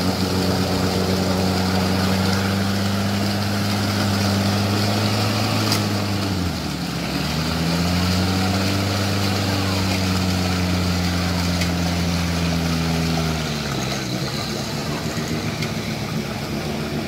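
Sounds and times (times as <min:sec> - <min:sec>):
engine at high revs: 0:00.0 - 0:17.0
wheels spinning in mud: 0:00.0 - 0:17.0.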